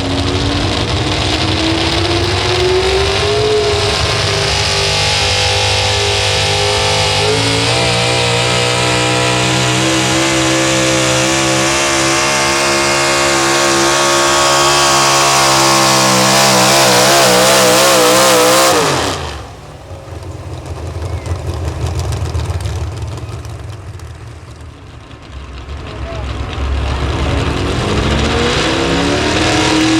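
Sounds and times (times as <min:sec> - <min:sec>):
truck engine at full throttle: 0:00.0 - 0:29.9.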